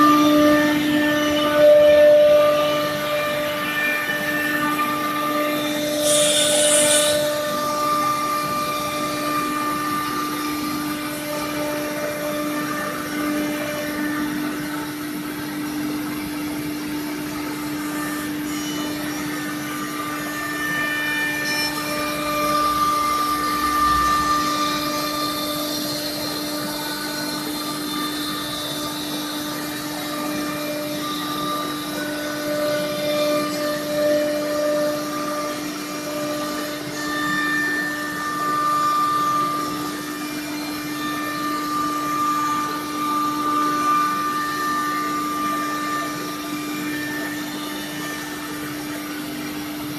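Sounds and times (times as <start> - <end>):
router spindle whine: 0.0 - 49.9.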